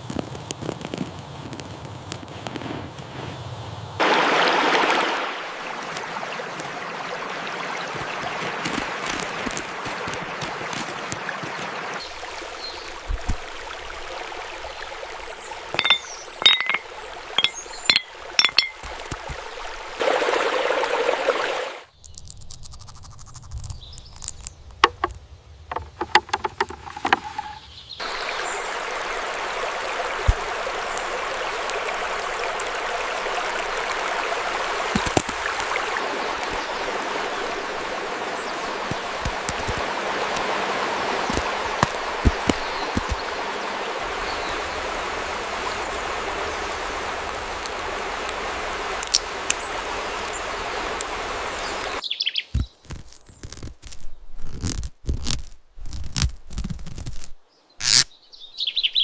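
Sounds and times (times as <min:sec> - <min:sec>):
running water: 0:04.0 - 0:52.0.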